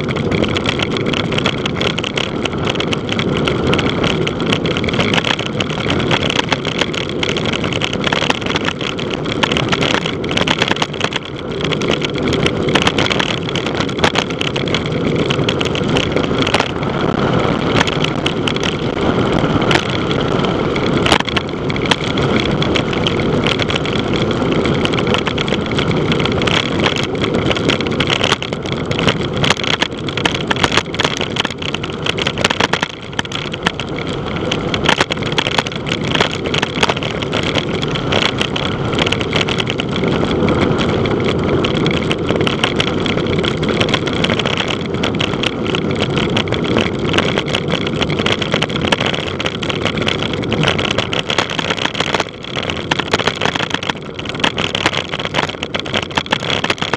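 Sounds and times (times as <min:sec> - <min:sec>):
bicycle tyre road noise: 0:00.0 - 0:56.9
sharp ticks: 0:00.0 - 0:56.9
wind rushing over microphone: 0:00.0 - 0:56.9.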